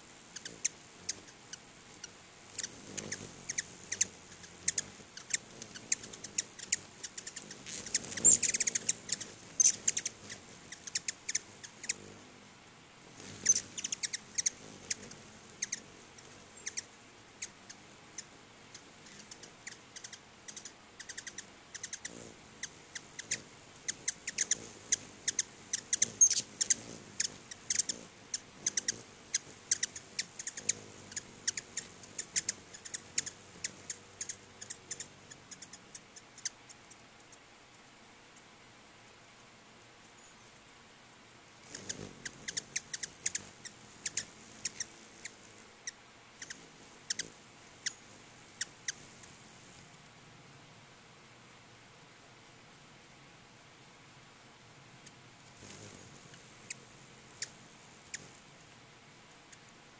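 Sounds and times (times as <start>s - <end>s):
hummingbirds chipping: 0.0s - 59.9s.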